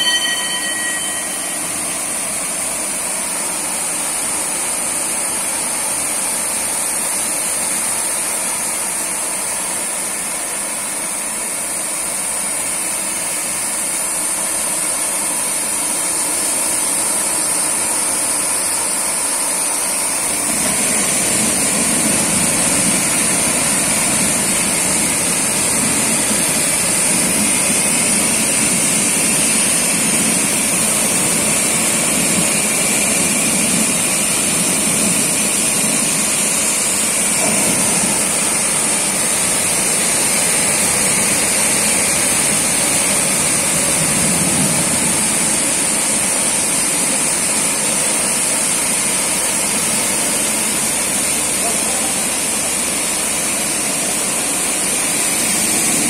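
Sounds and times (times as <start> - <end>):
carpet washing machine running: 1.0 - 56.0.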